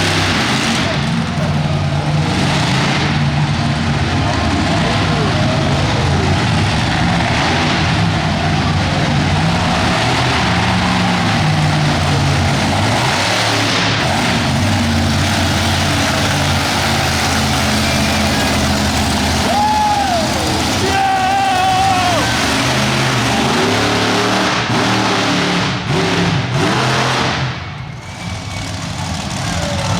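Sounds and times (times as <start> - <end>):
truck engine revving: 0.0 - 29.9.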